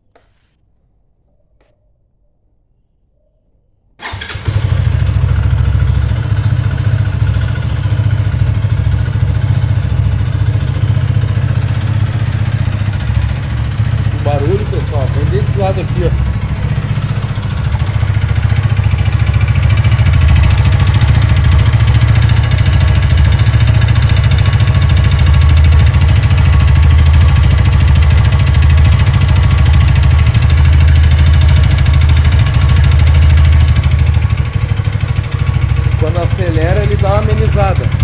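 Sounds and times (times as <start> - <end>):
motorcycle engine idling: 4.0 - 38.0.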